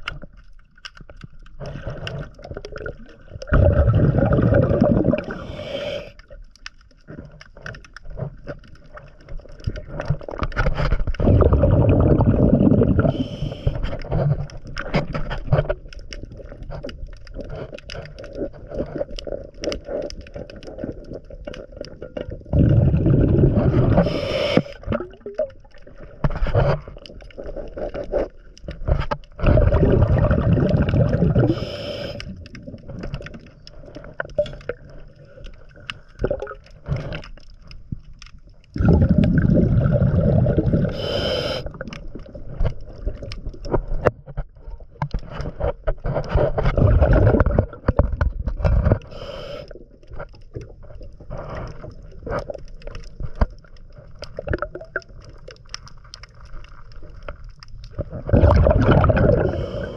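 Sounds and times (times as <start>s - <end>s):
underwater crackling and clicking: 0.0s - 59.9s
scuba regulator bubbles: 1.0s - 59.9s.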